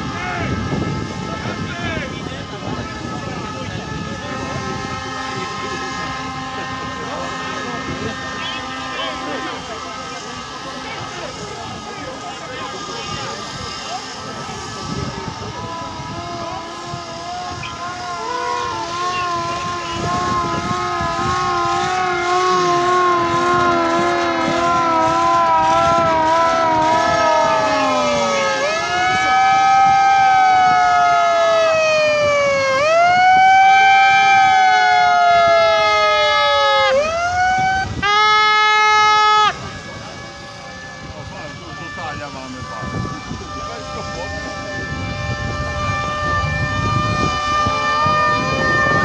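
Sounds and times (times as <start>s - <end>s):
wavering siren tones: 0.0s - 49.0s.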